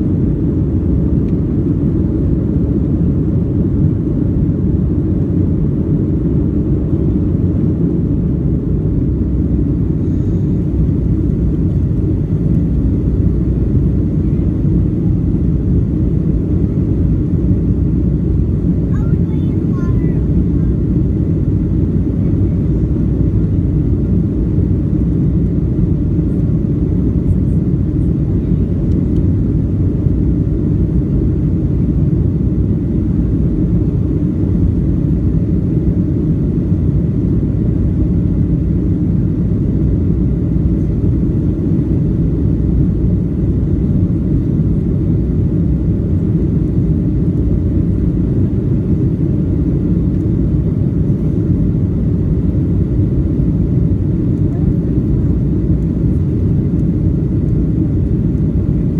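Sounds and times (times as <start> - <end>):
airliner engines rumbling: 0.0 - 58.9.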